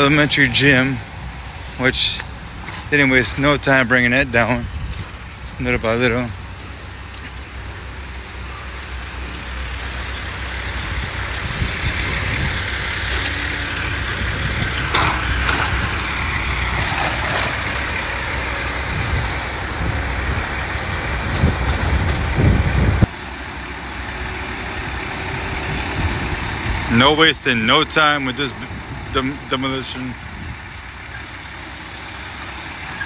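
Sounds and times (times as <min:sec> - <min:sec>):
diesel machinery engine rumble: 0:00.0 - 0:33.0.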